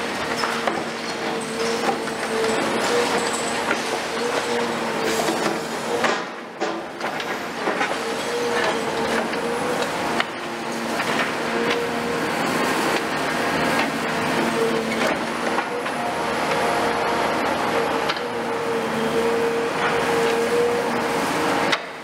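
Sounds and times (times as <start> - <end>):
excavator engine and hydraulics hum: 0.0 - 22.0.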